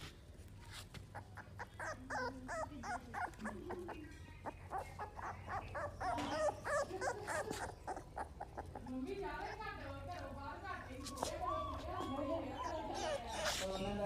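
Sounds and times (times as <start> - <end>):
puppies yipping and whining: 1.0 - 14.0.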